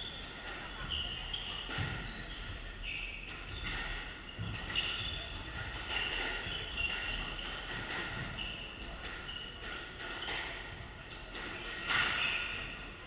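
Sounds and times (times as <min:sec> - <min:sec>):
shoes squeaking on wooden floor: 0:00.0 - 0:13.0.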